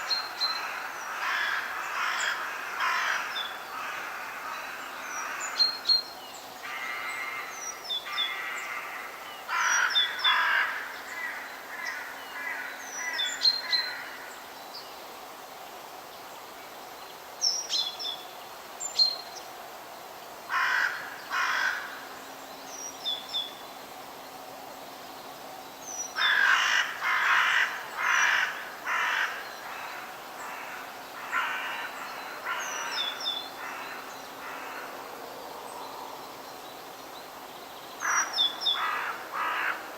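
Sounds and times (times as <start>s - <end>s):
loud forest bird calls: 0.0s - 39.9s.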